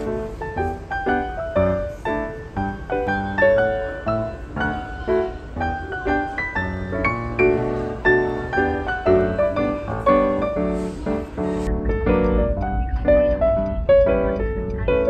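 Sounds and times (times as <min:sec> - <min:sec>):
keyboard tune with bass line: 0:00.0 - 0:15.0.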